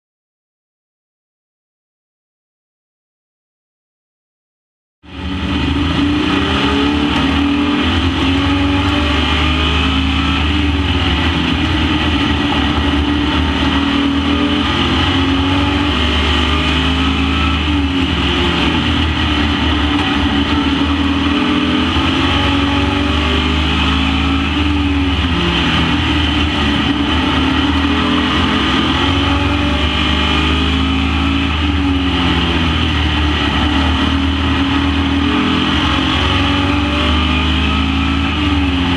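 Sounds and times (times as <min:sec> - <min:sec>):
racing truck engines: 0:05.0 - 0:38.9.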